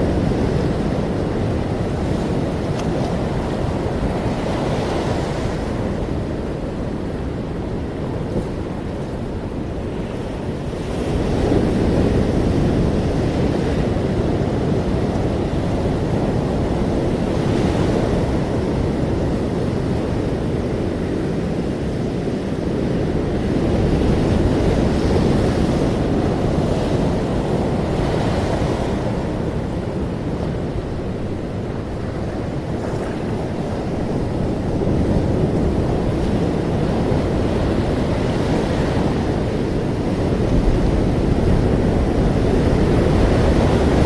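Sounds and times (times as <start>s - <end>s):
ocean waves breaking on shore: 0.0s - 44.0s
wind rumbling on microphone: 0.0s - 44.0s.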